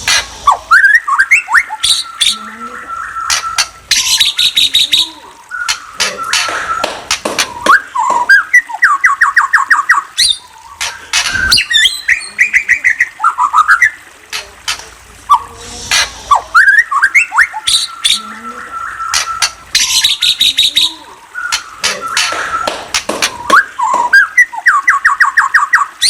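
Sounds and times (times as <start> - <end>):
songbird singing: 0.4 - 15.6, 16.3 - 26.0.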